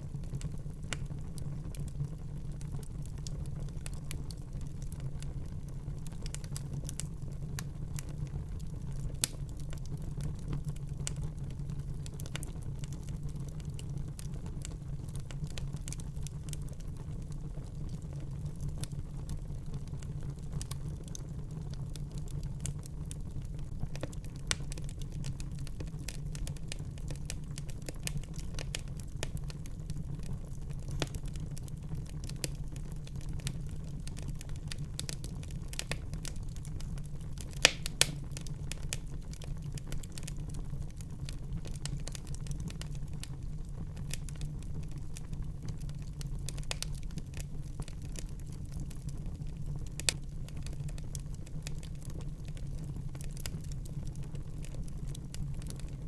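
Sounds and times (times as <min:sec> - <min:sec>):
fire crackling and popping: 0:00.0 - 0:56.0
fire rumbling: 0:00.0 - 0:56.0.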